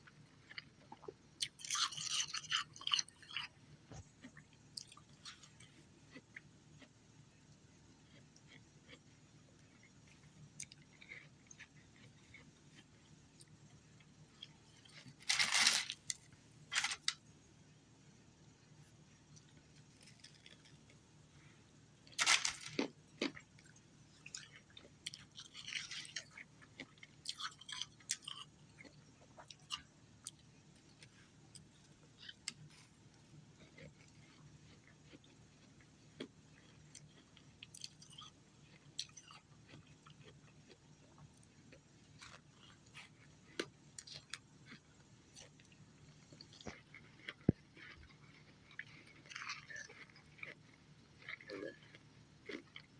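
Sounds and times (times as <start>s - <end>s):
ice being chewed: 0.0s - 7.0s, 8.0s - 17.2s, 19.4s - 20.9s, 22.1s - 52.9s.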